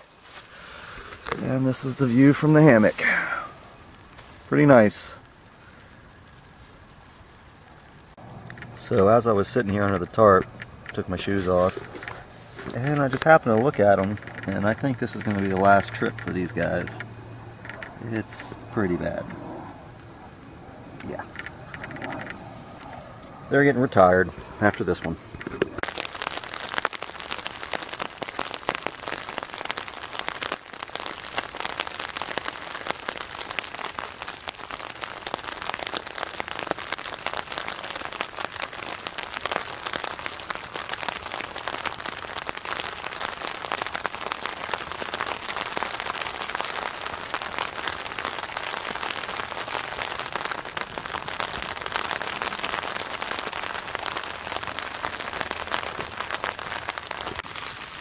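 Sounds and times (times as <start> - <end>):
rain on a tarp: 0.0 - 58.0.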